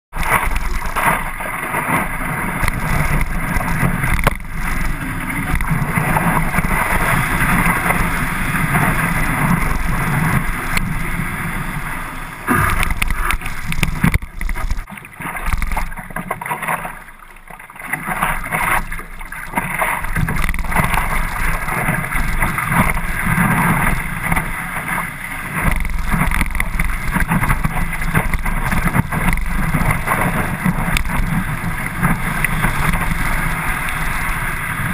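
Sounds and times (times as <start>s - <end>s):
water splashing against board: 0.1s - 11.8s, 12.4s - 34.9s.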